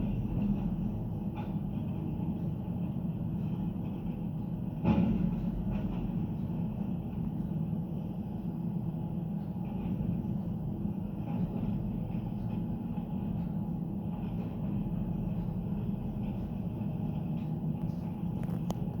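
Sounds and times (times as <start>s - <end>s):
heavy machinery engine rumbling: 0.0s - 19.0s.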